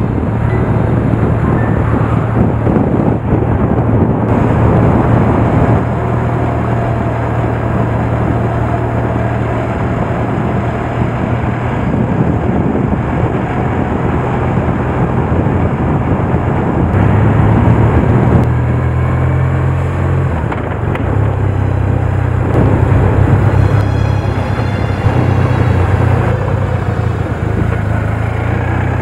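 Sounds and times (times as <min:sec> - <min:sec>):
motorcycle engine cruising: 0:00.0 - 0:29.0
wind on microphone: 0:00.0 - 0:29.0.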